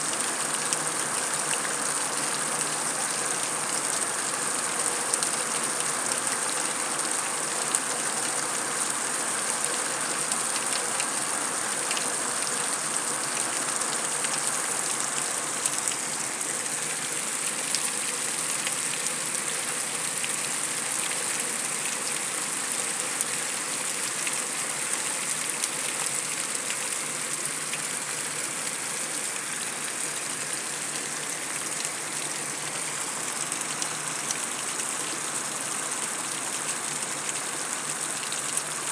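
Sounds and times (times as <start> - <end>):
heavy rain on concrete: 0.0 - 38.9.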